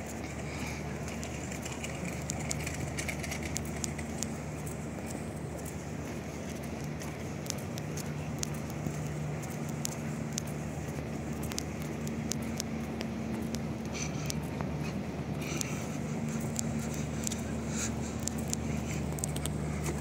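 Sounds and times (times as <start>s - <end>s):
ferry machinery humming: 0.0s - 20.0s
light clicks: 1.1s - 5.8s, 6.6s - 14.7s, 15.4s - 20.0s.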